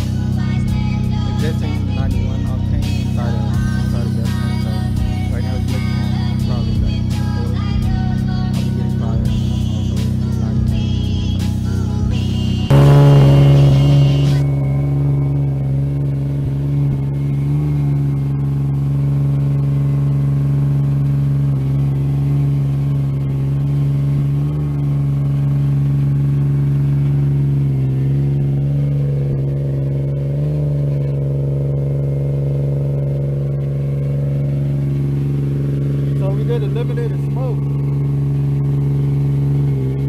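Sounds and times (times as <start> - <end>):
car engine droning on dyno: 0.0 - 40.0.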